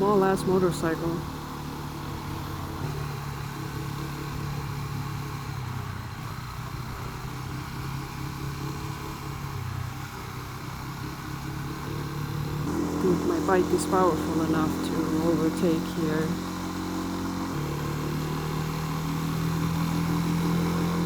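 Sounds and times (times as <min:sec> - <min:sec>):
motorcycle engine under load: 0:00.0 - 0:21.0.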